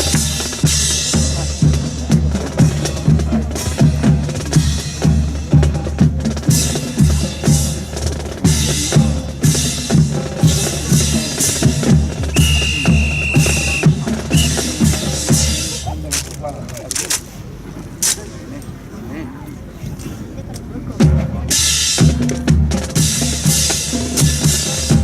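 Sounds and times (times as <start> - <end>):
drum-led music: 0.0 - 16.6, 21.0 - 25.0.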